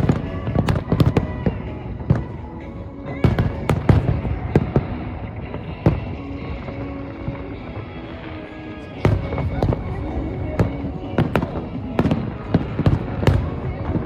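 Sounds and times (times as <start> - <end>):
fireworks bursting: 0.0 - 14.0
music: 0.0 - 14.0.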